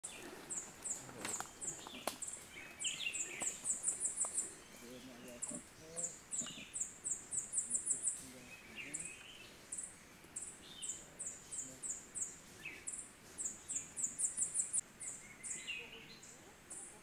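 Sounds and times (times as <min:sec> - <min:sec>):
lower bird chirp: 0:00.0 - 0:17.0.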